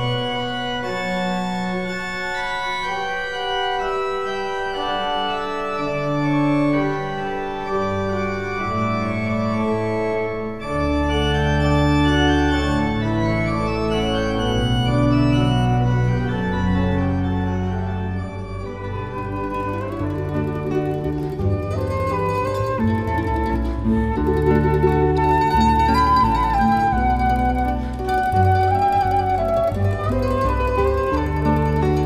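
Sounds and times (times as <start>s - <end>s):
deep organ bass notes: 0.0s - 32.0s
organ chords: 0.0s - 32.0s.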